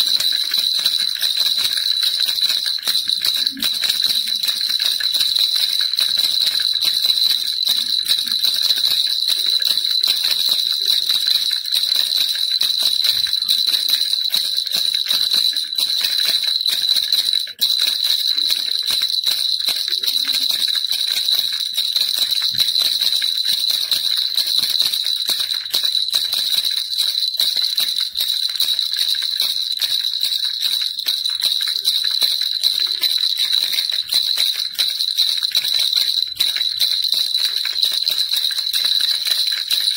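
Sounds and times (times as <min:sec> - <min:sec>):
baby rattle jingling: 0:00.0 - 0:39.9.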